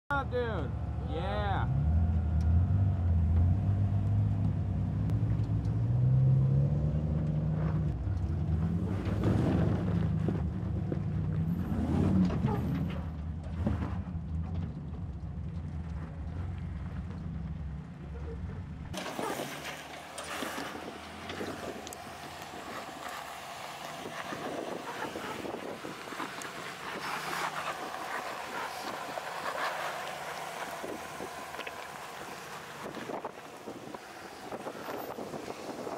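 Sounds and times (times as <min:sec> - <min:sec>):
off-road engine revving: 0:00.1 - 0:35.9.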